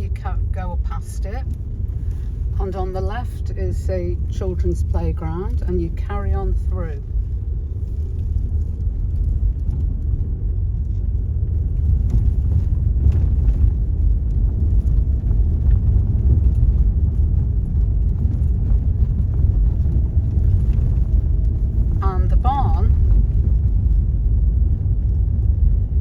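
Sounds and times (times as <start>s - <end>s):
car driving slowly: 0.0s - 26.0s.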